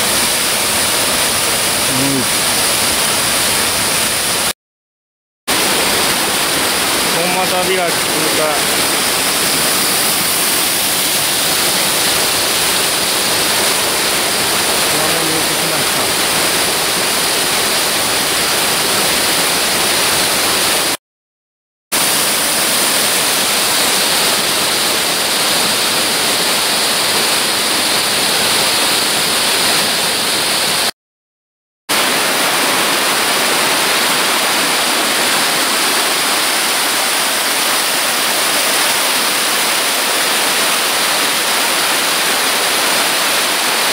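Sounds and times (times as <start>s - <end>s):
stream water rushing over rocks: 0.0s - 4.5s, 5.5s - 20.9s, 22.0s - 30.9s, 31.9s - 43.9s.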